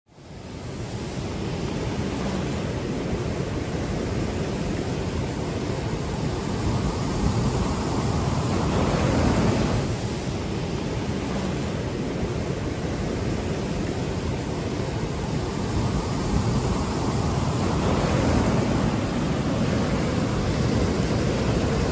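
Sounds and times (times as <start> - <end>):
surf breaking on beach: 0.3 - 21.9.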